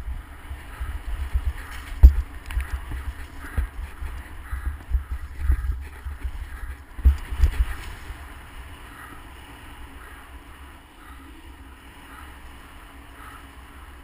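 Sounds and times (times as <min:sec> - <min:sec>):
motorcycle riding: 0:00.0 - 0:14.0
wind rumble on microphone: 0:00.0 - 0:14.0.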